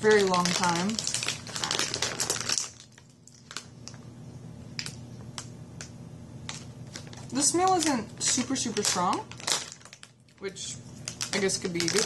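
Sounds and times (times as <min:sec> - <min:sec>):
plastic snack bag crinkling: 0:00.0 - 0:04.1, 0:04.8 - 0:12.0.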